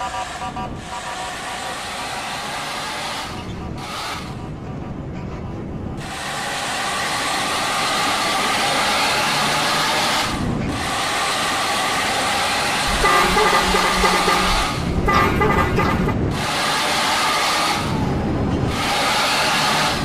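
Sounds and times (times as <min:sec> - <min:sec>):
multi-tone bus horn playing a tune: 0:00.0 - 0:20.0.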